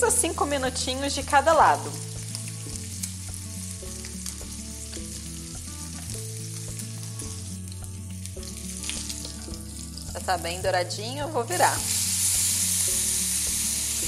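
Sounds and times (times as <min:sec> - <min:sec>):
background music: 0:00.0 - 0:14.0
beef sizzling in a pan: 0:00.0 - 0:14.0.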